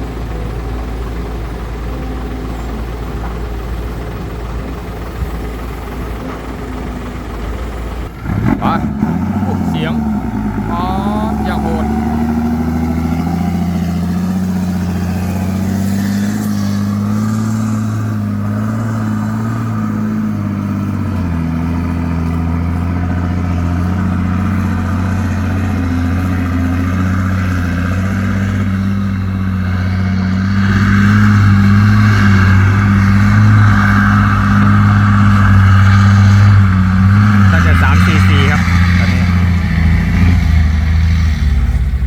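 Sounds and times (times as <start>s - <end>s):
diesel truck engine droning: 0.0s - 42.0s.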